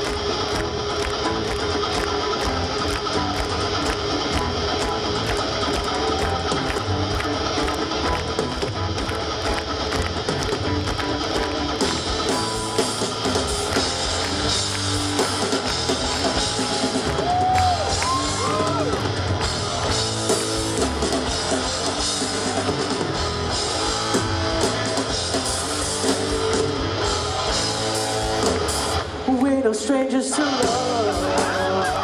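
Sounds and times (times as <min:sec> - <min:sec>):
rock band playing: 0:00.0 - 0:32.0.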